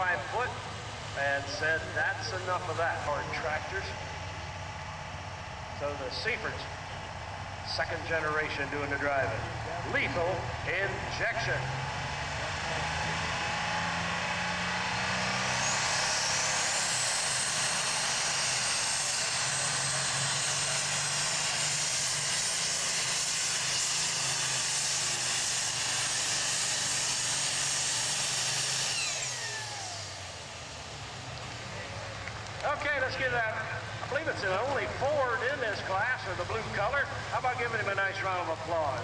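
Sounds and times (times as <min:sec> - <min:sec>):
diesel tractor engine at full power: 0:00.0 - 0:39.0
high engine whine: 0:00.0 - 0:39.0.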